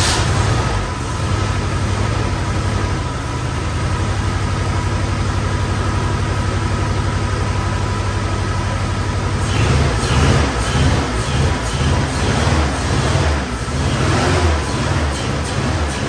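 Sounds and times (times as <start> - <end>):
pickup engine idling: 0.0 - 13.8.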